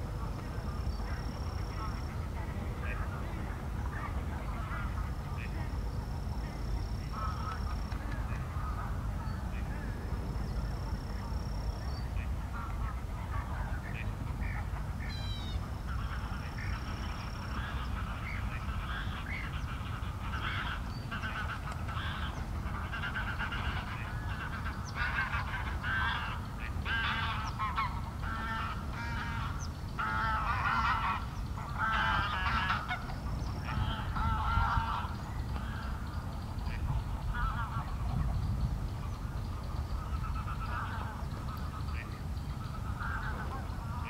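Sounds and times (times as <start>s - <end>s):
waterfowl calling: 7.0s - 10.6s, 11.2s - 44.0s.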